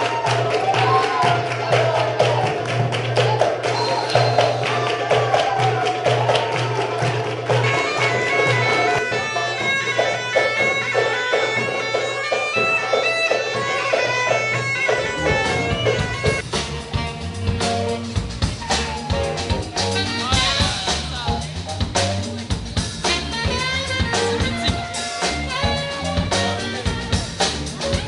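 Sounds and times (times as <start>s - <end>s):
wind instrument melody: 3.6s - 28.0s.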